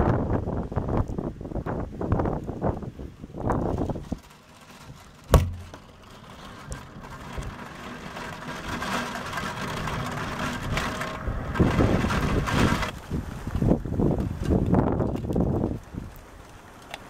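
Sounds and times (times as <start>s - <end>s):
wind buffeting microphone: 0.0s - 16.7s
gusting wind: 0.0s - 17.0s
heavy rain: 0.0s - 17.0s.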